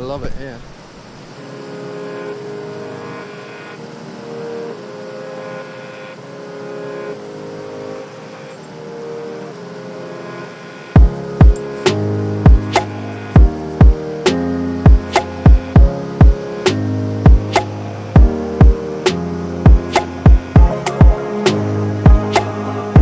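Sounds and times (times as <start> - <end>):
held chords music: 1.4 - 23.0.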